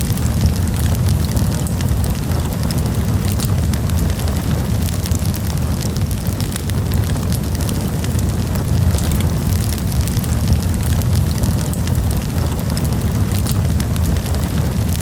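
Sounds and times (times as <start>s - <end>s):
burning wood crackling and popping: 0.0s - 15.0s
campfire flames roaring: 0.0s - 15.0s.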